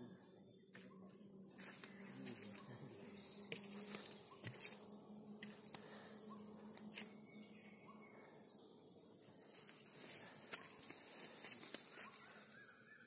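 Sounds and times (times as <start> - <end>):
high-pitched insect chirping: 0.0 - 13.0.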